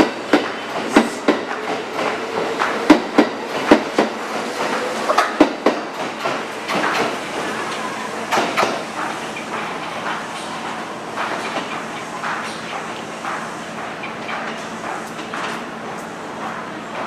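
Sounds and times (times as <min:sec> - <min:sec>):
train wheels clacking over rail joints: 0:00.0 - 0:17.0.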